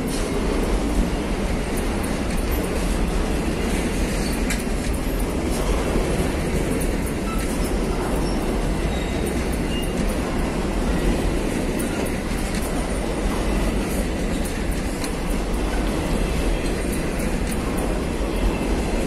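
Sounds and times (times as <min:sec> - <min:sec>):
freight train rumbling past: 0:00.0 - 0:19.0
wheels and couplings clanking: 0:00.0 - 0:19.0.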